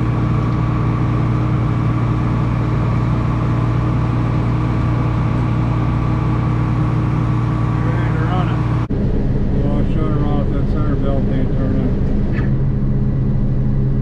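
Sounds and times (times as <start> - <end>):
combine harvester humming: 0.0 - 14.0.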